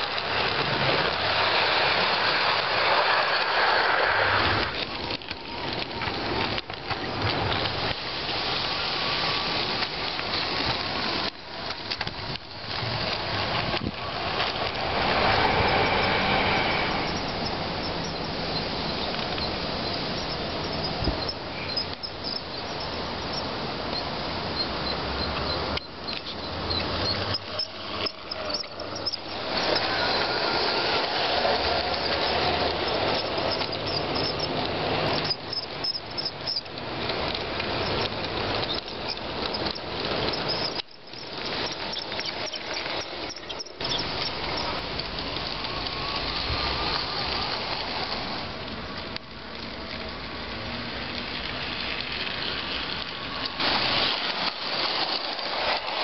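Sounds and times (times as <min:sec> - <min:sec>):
model train wheels rattling on rails: 0:00.0 - 0:56.0.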